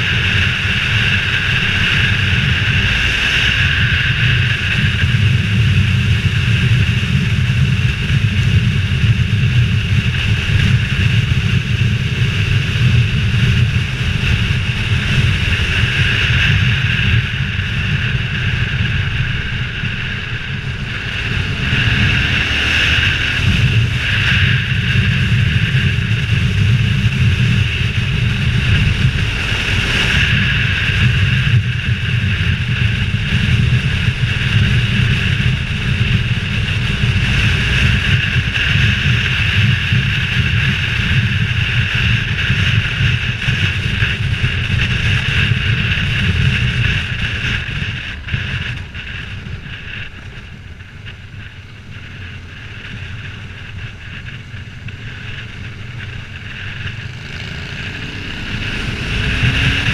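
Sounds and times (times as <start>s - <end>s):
motorcycle engine running: 0.0s - 59.9s
wind rushing over camera: 0.0s - 59.9s.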